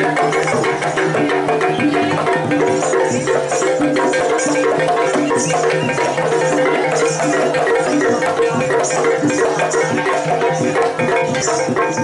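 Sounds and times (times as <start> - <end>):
drums and pitched percussion: 0.0 - 12.0.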